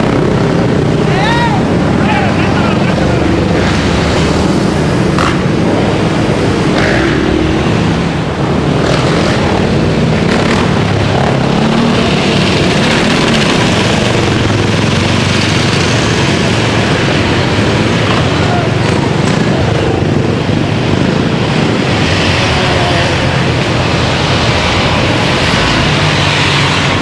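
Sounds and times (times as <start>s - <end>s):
dirt bike engines revving: 0.0s - 27.0s
steady rush of noise: 0.0s - 27.0s.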